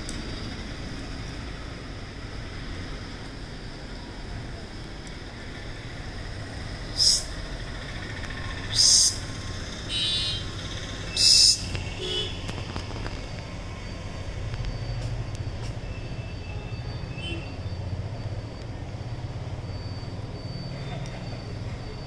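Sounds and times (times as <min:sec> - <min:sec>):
passing traffic rumble: 0:00.0 - 0:22.0.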